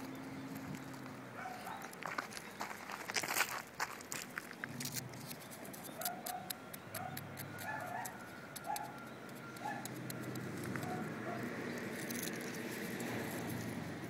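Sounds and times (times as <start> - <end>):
gravel crunching: 0.0 - 14.0.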